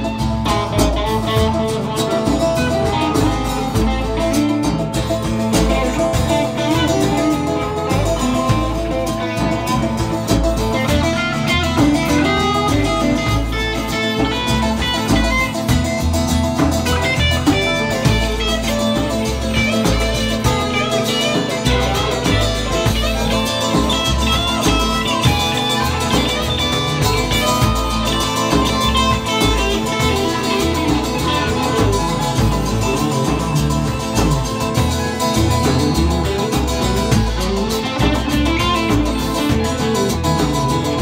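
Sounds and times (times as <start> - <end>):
live rock band instrumental: 0.0 - 41.0.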